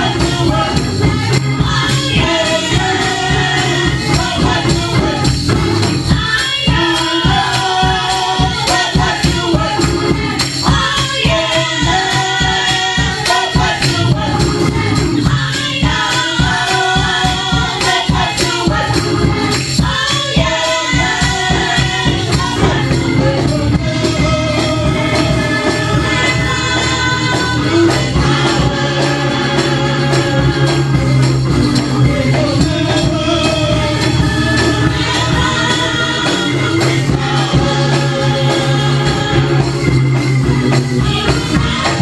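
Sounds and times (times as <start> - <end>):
choir singing gospel song: 0.0 - 42.0
instrumental backing: 0.0 - 42.0
tambourine jingling: 0.0 - 42.0.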